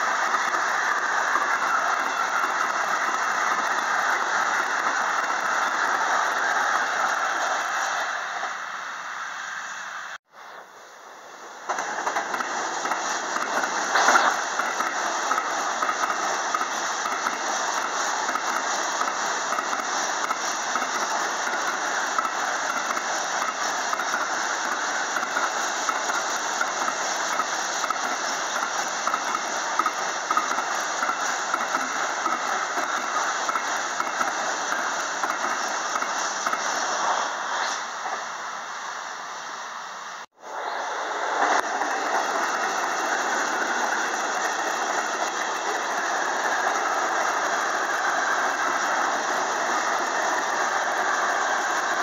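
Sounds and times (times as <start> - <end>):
train passing at speed: 0.0 - 52.0.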